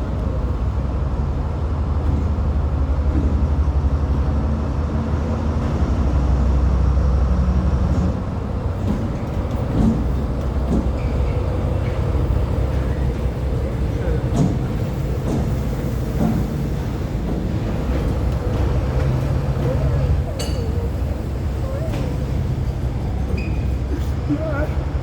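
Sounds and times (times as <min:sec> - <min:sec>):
train engine rumbling: 0:00.0 - 0:25.0.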